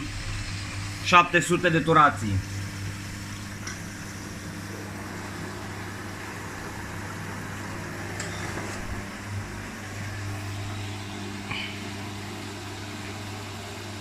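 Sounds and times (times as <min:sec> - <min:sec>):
second washing machine running: 0:00.0 - 0:14.0
washing machine spinning: 0:00.0 - 0:14.0.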